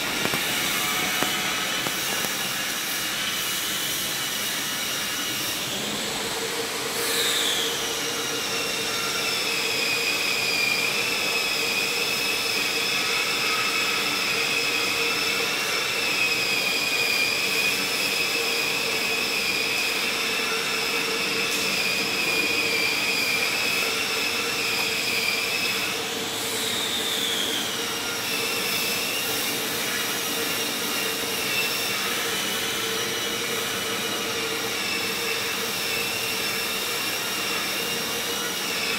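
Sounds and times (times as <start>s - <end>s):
high-pitched whine: 0.0s - 38.9s.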